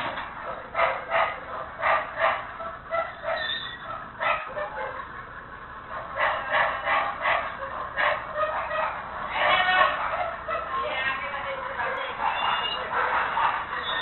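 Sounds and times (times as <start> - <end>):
dog barking through tinny microphone: 0.4 - 5.0, 6.0 - 10.8, 11.6 - 14.0.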